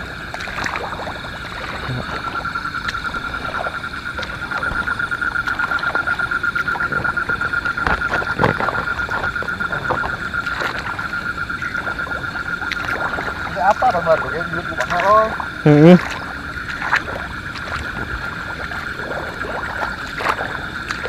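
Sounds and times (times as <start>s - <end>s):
high pulsing animal chirr: 1.0s - 20.9s.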